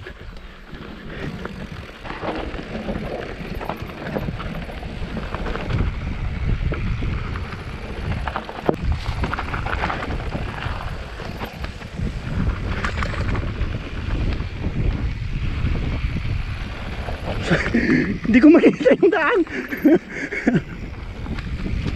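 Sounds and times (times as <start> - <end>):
bike rattling over bumps: 0.0 - 21.9
tyres on loose gravel: 0.0 - 21.9
wind rumble on microphone: 0.0 - 21.9.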